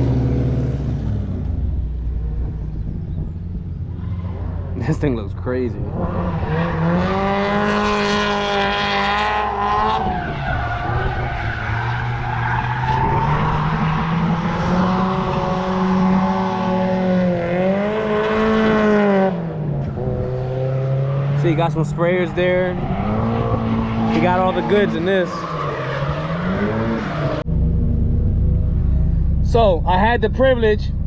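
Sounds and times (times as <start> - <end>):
car engine revving: 0.0 - 31.0
tyres skidding: 0.0 - 31.0.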